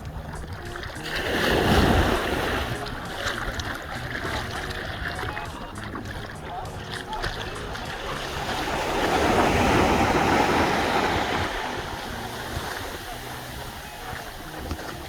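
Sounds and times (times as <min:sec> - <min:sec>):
surf washing on beach: 0:00.0 - 0:15.0.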